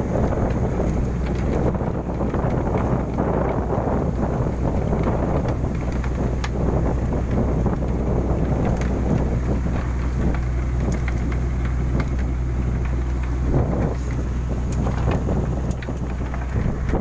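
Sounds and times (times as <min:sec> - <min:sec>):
ship engine droning: 0:00.0 - 0:17.0
wind buffeting microphone: 0:00.0 - 0:17.0
small clicks and knocks: 0:00.2 - 0:17.0.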